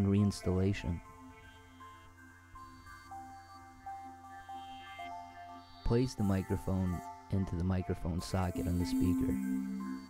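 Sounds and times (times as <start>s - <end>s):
quiet music with held notes: 0.0s - 10.0s.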